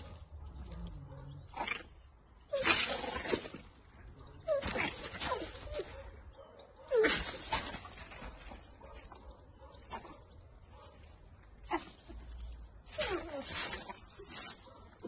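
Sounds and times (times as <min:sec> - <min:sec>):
paws scuffing gravel: 0:00.0 - 0:01.8, 0:02.5 - 0:06.2, 0:06.9 - 0:15.0.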